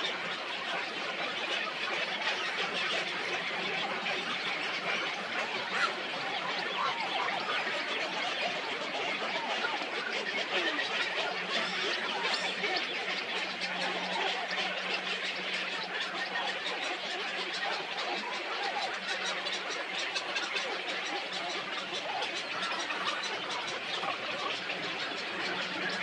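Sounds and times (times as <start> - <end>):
many birds chattering: 0.0 - 26.0.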